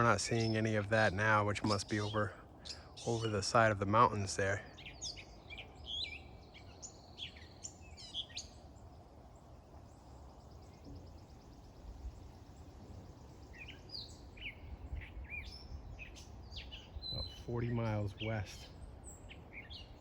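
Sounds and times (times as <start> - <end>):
bird trill: 0.0 - 9.0, 9.8 - 20.0
songbirds chirping: 0.0 - 20.0.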